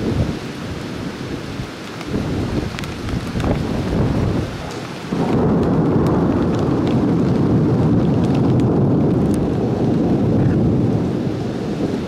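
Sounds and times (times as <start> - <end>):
heavy rain downpour: 0.0 - 12.0
rolling thunder: 2.1 - 12.0.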